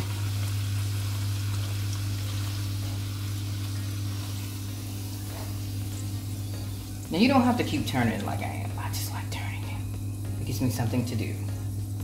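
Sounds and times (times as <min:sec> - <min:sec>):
dough sizzling in hot oil: 0:00.0 - 0:08.8, 0:10.0 - 0:12.0
low hum: 0:00.0 - 0:12.0.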